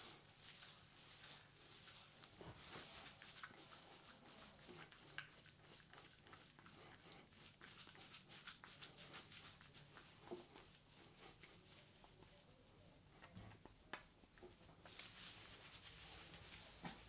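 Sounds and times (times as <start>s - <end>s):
shampoo lather squishing: 0.0s - 16.6s.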